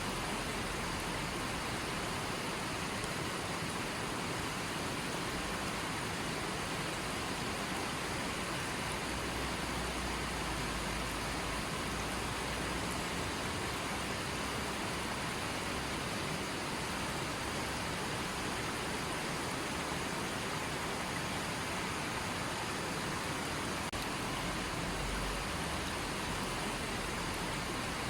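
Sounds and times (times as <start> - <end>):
stream of water flowing: 0.0 - 28.0.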